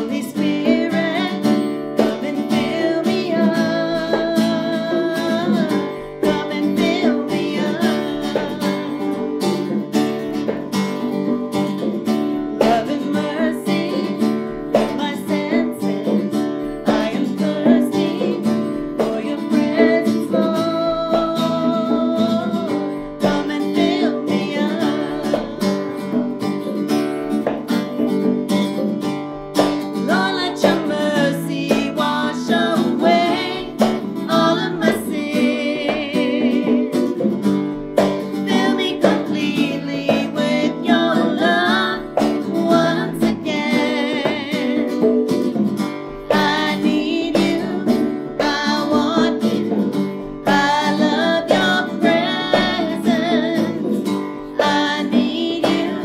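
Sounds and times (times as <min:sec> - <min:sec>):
women singing: 0:00.0 - 0:10.7, 0:12.5 - 0:26.3, 0:30.0 - 0:37.4, 0:38.0 - 0:45.6, 0:46.2 - 0:56.0
conga drums: 0:00.0 - 0:56.0
electric guitar: 0:00.0 - 0:56.0
strummed acoustic guitar: 0:00.0 - 0:56.0.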